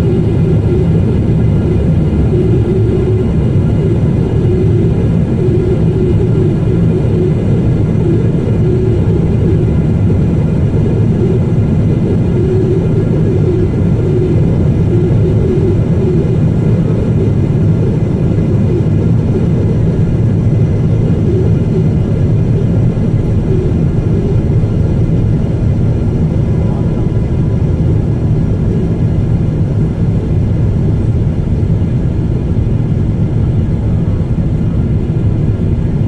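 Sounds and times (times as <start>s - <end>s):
airplane cabin engine rumble: 0.0s - 36.0s.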